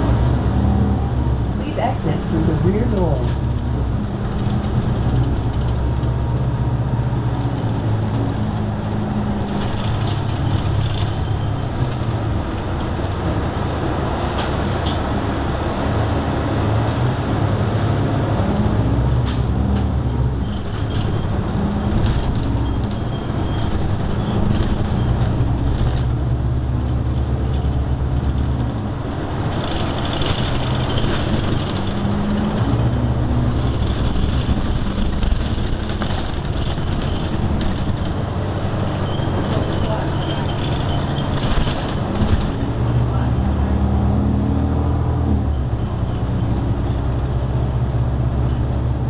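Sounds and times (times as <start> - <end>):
bus engine drone: 0.0 - 49.0
road noise: 0.0 - 49.0.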